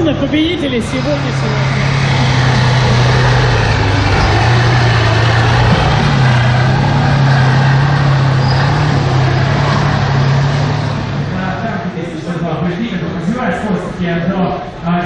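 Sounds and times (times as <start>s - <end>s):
tank engine droning: 0.0s - 15.0s.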